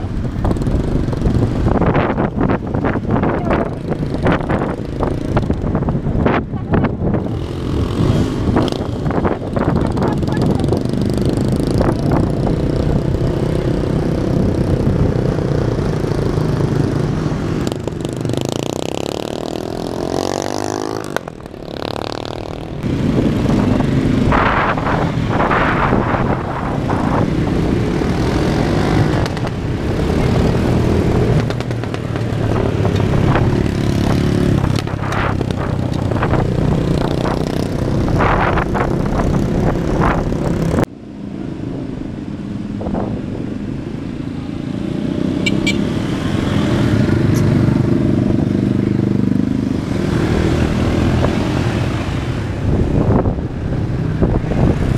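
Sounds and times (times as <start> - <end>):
motorcycle engines: 0.0 - 54.9.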